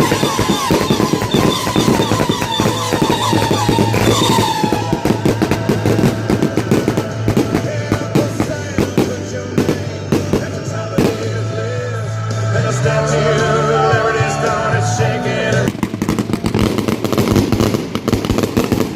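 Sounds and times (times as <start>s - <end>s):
fireworks cracking and banging: 0.0s - 12.8s, 13.4s - 18.9s
background music: 0.0s - 17.8s.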